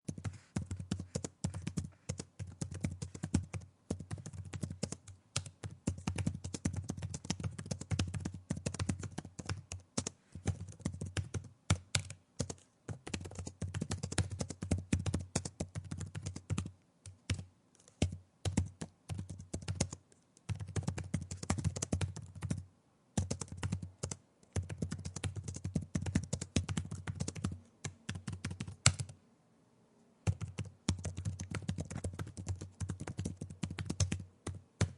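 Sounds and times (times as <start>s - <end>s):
laptop keyboard typing: 0.1s - 22.6s, 23.2s - 29.2s, 30.2s - 34.9s.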